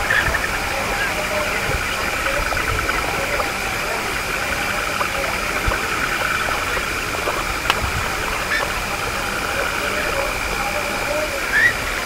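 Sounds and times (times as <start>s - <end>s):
frogs and insects trilling: 0.0s - 12.0s.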